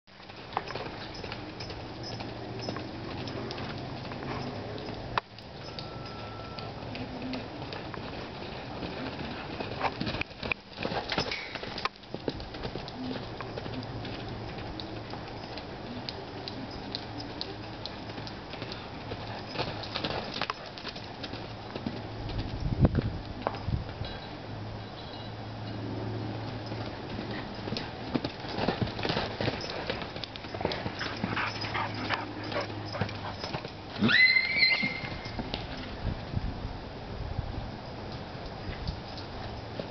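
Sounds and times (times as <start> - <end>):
hoofbeats on dirt: 0.1 - 24.3, 26.0 - 36.4, 38.7 - 39.9
steady background noise: 0.1 - 39.9.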